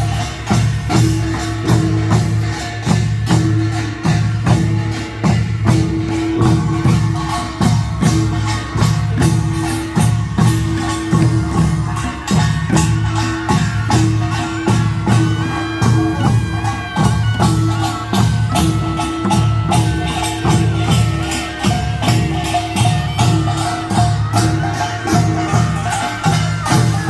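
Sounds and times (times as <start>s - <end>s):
drums beating: 0.0s - 27.0s
small gongs clanging: 0.0s - 27.0s.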